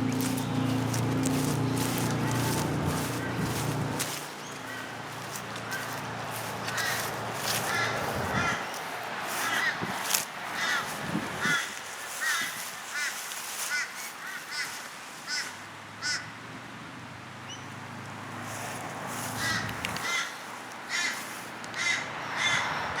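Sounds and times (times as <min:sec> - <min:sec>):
crow cawing: 0:00.2 - 0:16.3, 0:19.3 - 0:23.0.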